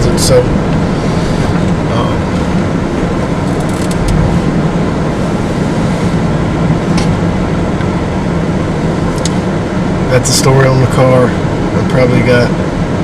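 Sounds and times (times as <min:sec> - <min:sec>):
road and engine noise in vehicle: 0:00.0 - 0:13.0.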